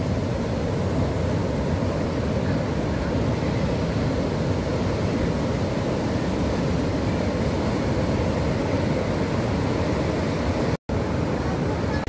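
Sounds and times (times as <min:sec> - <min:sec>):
heavy surf breaking: 0:00.0 - 0:12.0.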